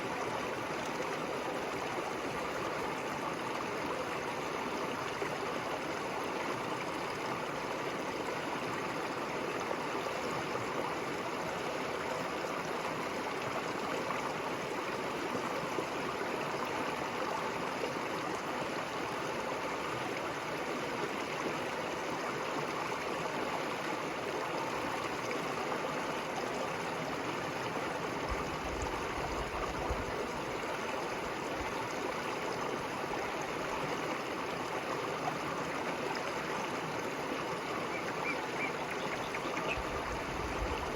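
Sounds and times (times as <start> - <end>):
river water gurgling: 0.0 - 40.9.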